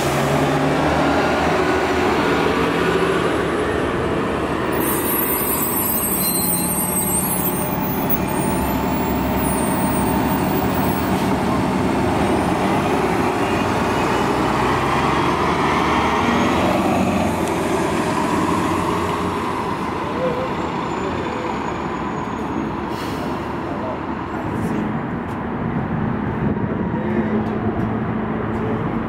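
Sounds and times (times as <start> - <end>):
articulated bus passing: 0.0 - 29.0
bus engine passing: 0.0 - 29.0.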